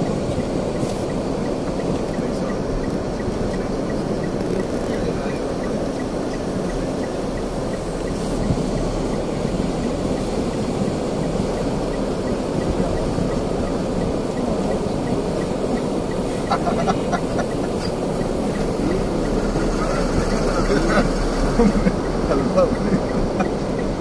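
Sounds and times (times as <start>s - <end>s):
car engine and tyre rumble: 0.0s - 24.0s
rain on car: 0.0s - 24.0s.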